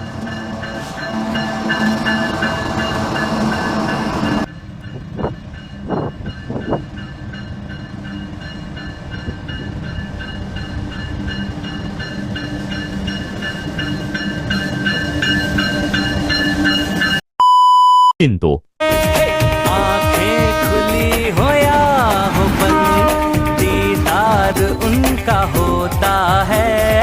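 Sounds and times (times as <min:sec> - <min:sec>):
train running: 0:00.0 - 0:17.2, 0:18.8 - 0:27.0.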